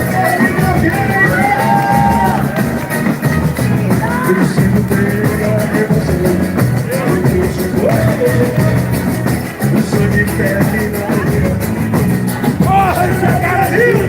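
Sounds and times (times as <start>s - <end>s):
fast steady drumming: 0.0s - 14.0s
pitched melody line: 0.0s - 14.0s.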